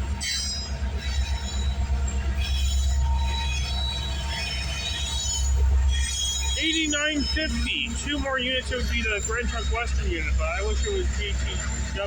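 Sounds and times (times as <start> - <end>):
freight train rumbling: 0.0 - 12.0
wheels squealing: 0.2 - 12.0.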